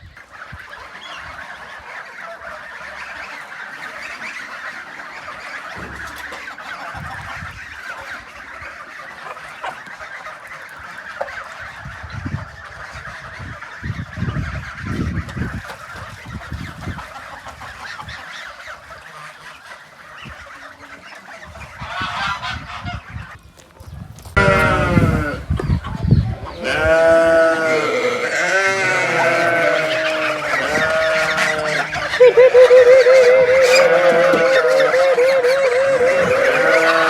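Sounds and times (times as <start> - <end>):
farm animals calling: 0.0 - 37.0.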